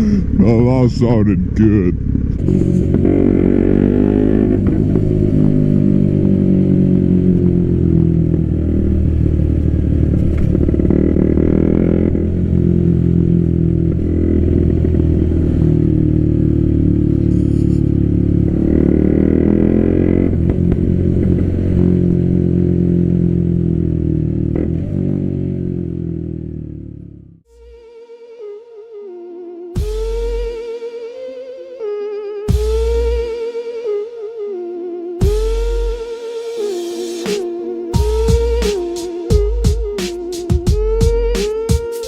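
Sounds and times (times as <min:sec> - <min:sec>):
motorcycle engine revving: 0:01.4 - 0:27.8, 0:29.8 - 0:31.2, 0:32.5 - 0:34.5, 0:35.1 - 0:42.0.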